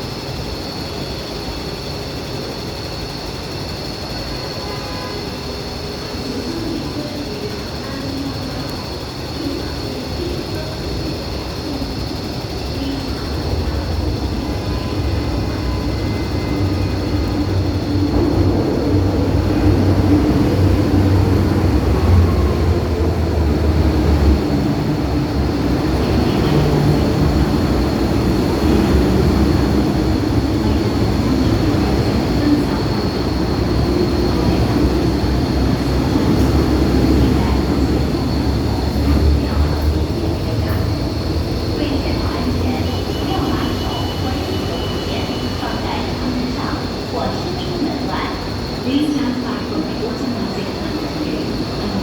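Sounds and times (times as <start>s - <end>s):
electric train rumbling through station: 0.0s - 52.0s.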